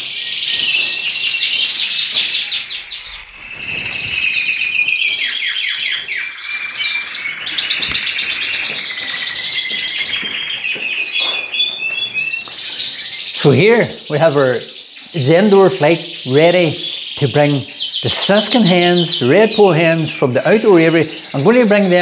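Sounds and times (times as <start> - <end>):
finches singing and chirping: 0.3 - 22.0.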